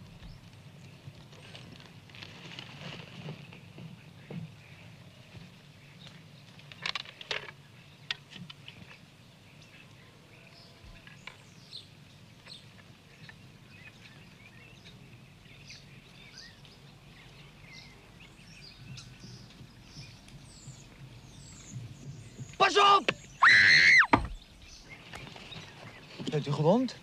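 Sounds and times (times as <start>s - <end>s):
small birds chirping: 3.4s - 27.0s.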